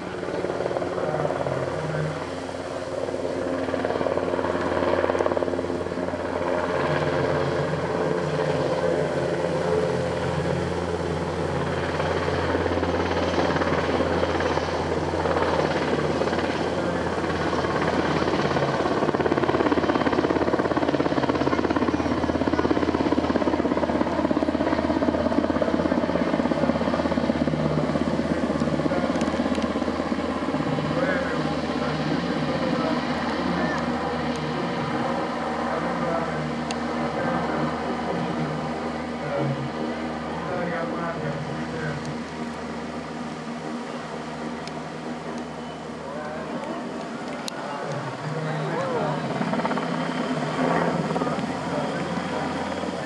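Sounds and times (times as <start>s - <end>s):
helicopter flying overhead: 0.0s - 53.0s.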